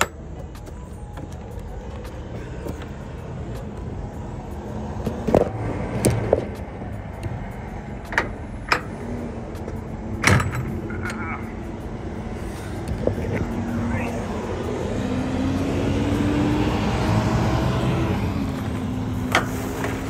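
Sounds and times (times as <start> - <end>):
vehicle and traffic noise: 0.0 - 20.0.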